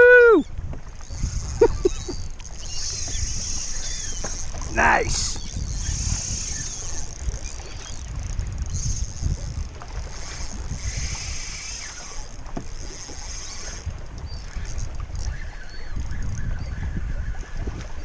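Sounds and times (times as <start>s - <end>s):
water slapping kayak hull: 0.0s - 18.0s
wind buffeting microphone: 0.0s - 18.0s.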